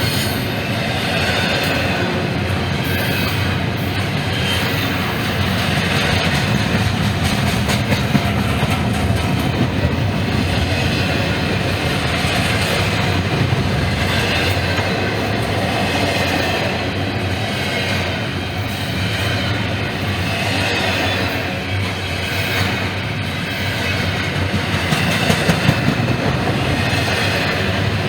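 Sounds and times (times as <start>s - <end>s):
freight train wheels rumbling: 0.0s - 28.0s
rail joint clicks: 0.0s - 28.0s.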